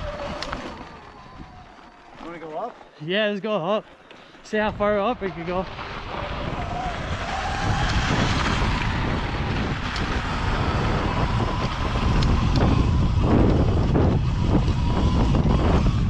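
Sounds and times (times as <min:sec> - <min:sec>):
wind buffeting microphone: 0:00.0 - 0:02.7, 0:04.4 - 0:16.0
electric motor whine: 0:00.0 - 0:03.0, 0:04.8 - 0:16.0.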